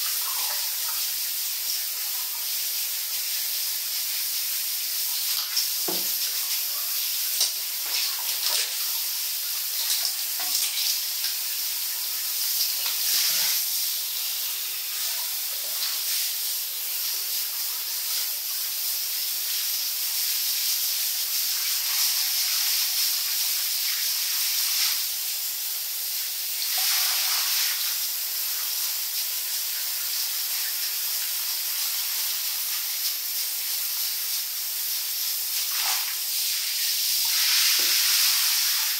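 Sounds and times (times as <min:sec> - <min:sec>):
shower spray hissing: 0:00.0 - 0:38.9.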